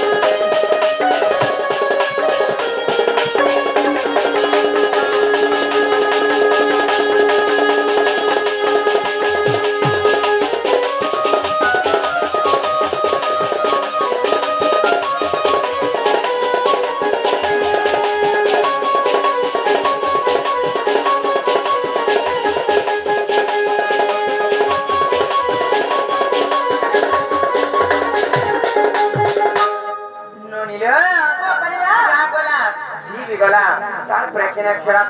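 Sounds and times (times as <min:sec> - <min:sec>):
melody of held notes: 0:00.0 - 0:30.5.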